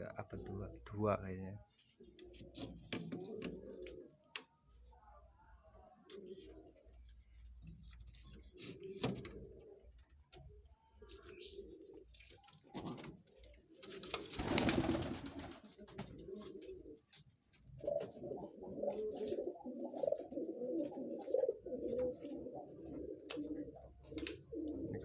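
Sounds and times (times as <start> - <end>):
pigeons cooing: 1.8 - 25.0.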